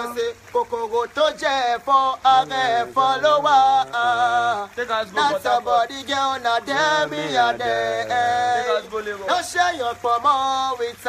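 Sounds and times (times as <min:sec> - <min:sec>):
man singing chanting melody: 0:00.0 - 0:11.0.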